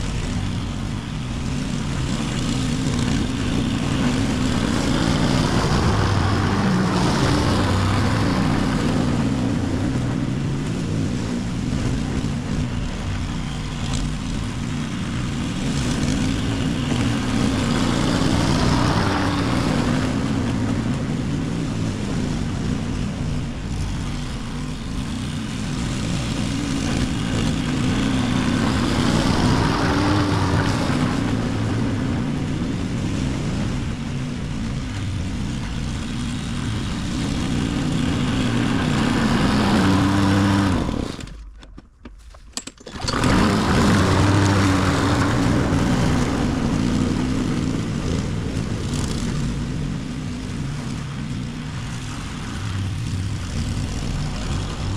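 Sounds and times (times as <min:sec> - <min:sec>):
lawn mower engine cutting grass: 0:00.0 - 0:54.9.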